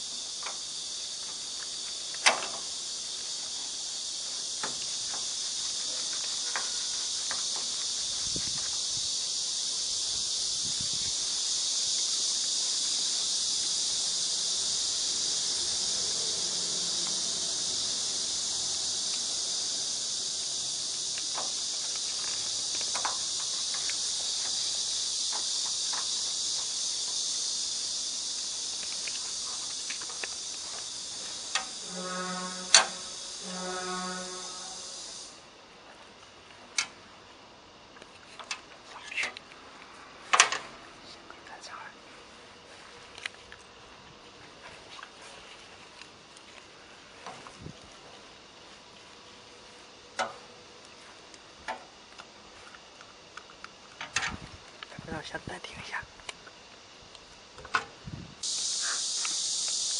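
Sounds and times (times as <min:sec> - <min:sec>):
insect chirring: 0:00.0 - 0:59.9.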